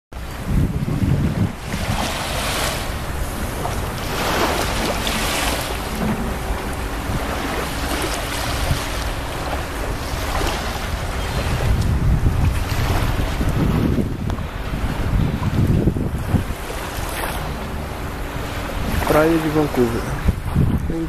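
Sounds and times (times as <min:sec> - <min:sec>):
wind buffeting microphone: 0:00.1 - 0:21.0
small waves washing onto sand: 0:00.2 - 0:21.0.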